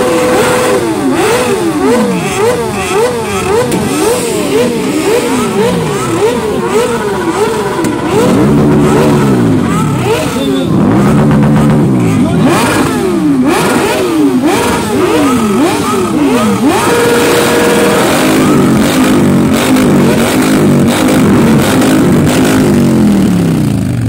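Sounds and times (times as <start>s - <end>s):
motorcycle engine revving hard: 0.0s - 24.0s.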